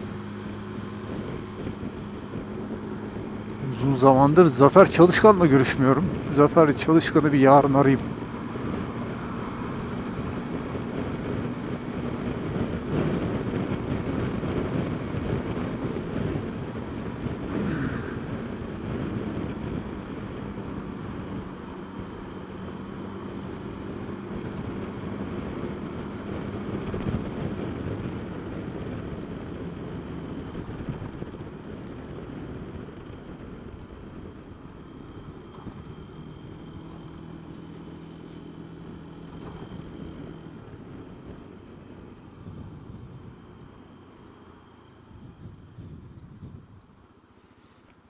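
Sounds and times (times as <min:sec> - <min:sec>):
wind noise on microphone: 0:00.0 - 0:37.7, 0:39.2 - 0:44.0, 0:45.0 - 0:47.0
scooter engine running: 0:00.0 - 0:46.7.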